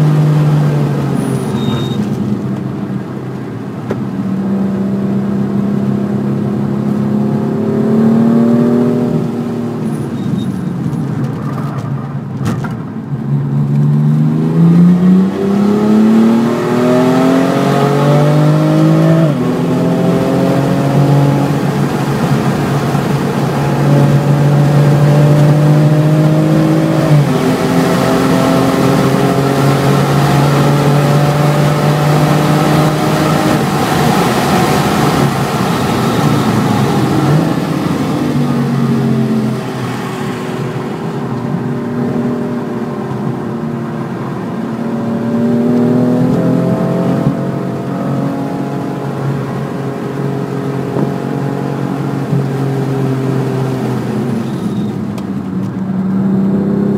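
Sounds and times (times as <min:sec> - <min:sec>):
car engine accelerating hard: 0:00.0 - 0:10.2, 0:13.3 - 0:56.9
wind and road noise: 0:00.0 - 0:56.9.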